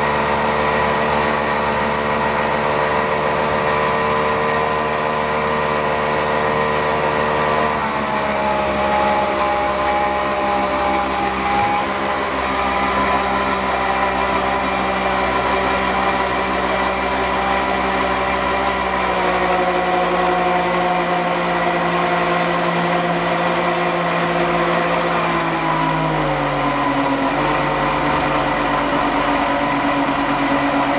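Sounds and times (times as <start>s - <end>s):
outboard motor running: 0.0s - 30.9s
wind: 0.0s - 30.9s.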